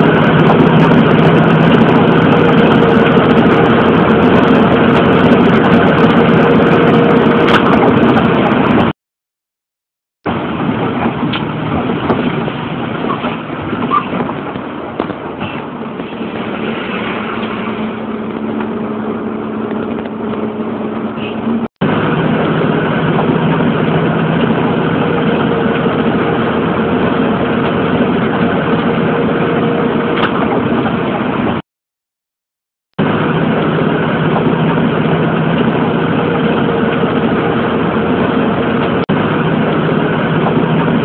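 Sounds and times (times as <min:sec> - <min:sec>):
bus engine hum: 0:00.0 - 0:09.0, 0:10.3 - 0:31.6, 0:33.0 - 0:41.0.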